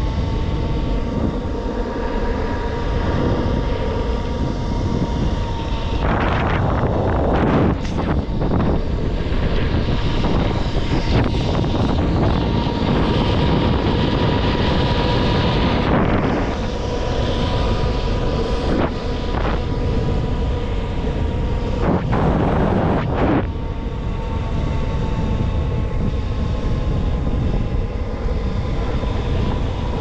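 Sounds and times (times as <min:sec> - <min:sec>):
faint steady whine: 0:00.0 - 0:30.0
wind rushing over microphone: 0:00.0 - 0:30.0.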